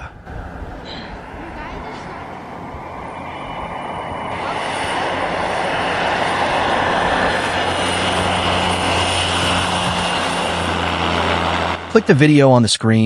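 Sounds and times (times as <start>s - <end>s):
propeller aircraft engine: 0.0s - 13.0s.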